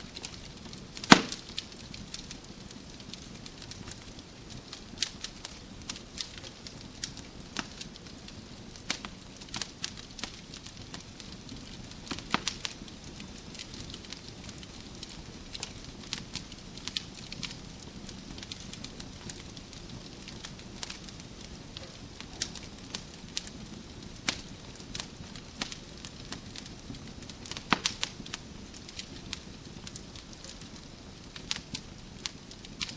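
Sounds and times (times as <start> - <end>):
wood fire crackling and popping: 0.0 - 32.9.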